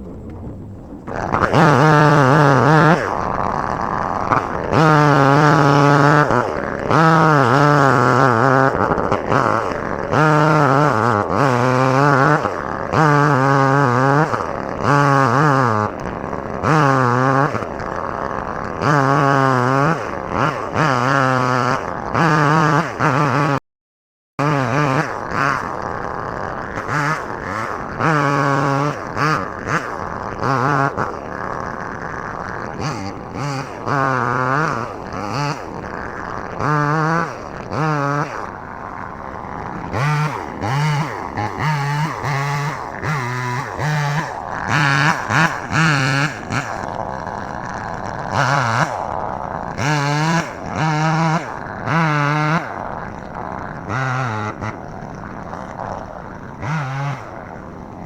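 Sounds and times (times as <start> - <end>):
chainsaw revving: 0.0 - 23.6, 24.4 - 58.0.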